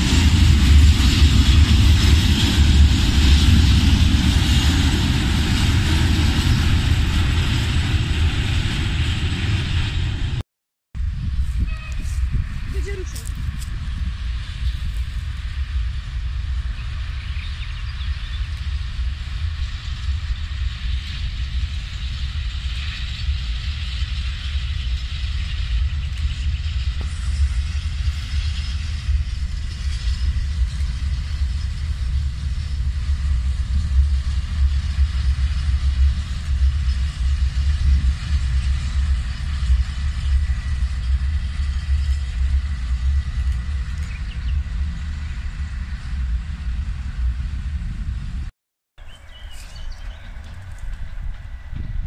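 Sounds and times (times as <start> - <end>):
deep flickering low rumble: 0.0 - 10.4, 11.0 - 52.0
train rumbling: 0.0 - 10.4, 11.0 - 52.0.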